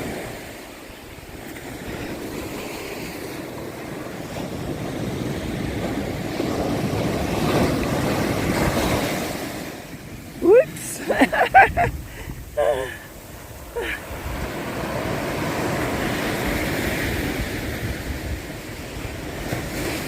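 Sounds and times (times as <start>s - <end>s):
ocean surf washing on beach: 0.0s - 20.0s
wind buffeting microphone: 0.0s - 20.0s.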